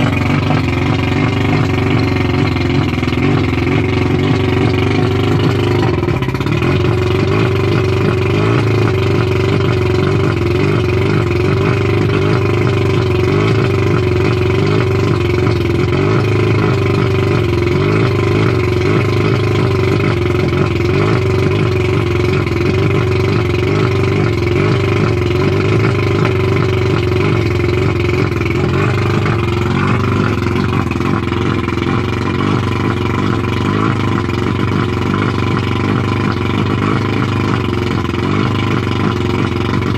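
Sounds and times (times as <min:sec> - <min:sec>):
outboard motor idling fast: 0:00.0 - 0:39.9.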